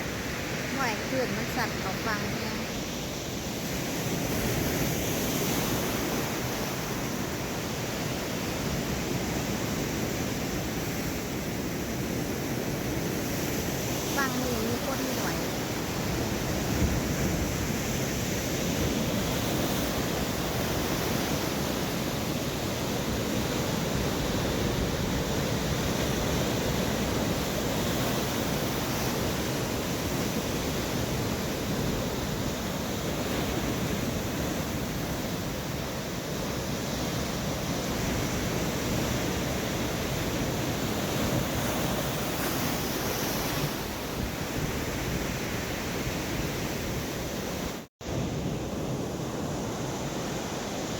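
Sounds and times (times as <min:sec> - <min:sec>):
wind rumbling on microphone: 0:00.0 - 0:50.9.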